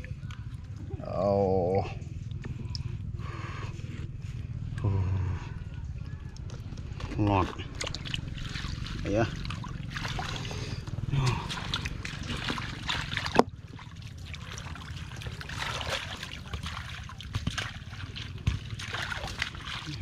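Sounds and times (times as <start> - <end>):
wading through water and mud: 0.0 - 20.0.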